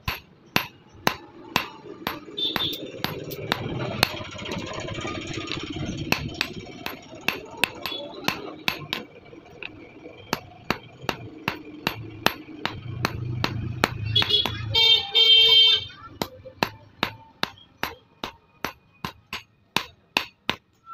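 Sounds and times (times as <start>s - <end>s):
hammer striking steel on anvil: 0.0s - 20.8s.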